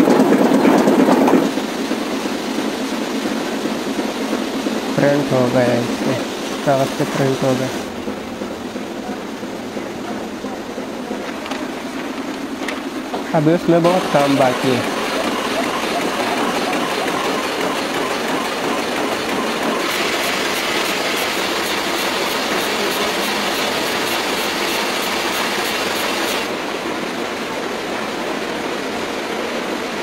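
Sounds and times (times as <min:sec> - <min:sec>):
fast regular clicking: 0:00.0 - 0:26.5
machinery running: 0:00.0 - 0:29.6.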